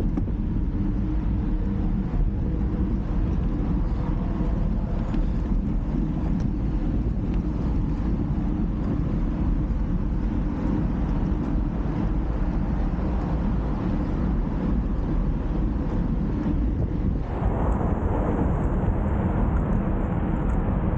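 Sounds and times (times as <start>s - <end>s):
road and motion noise: 0.0s - 20.9s
wind buffeting microphone: 0.0s - 20.9s.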